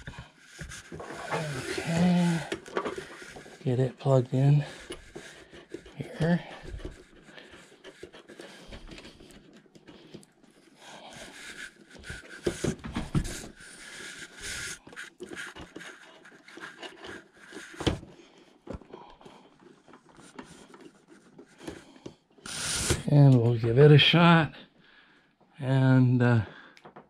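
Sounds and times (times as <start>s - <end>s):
cable connector scraping and rustling: 0.0s - 23.9s.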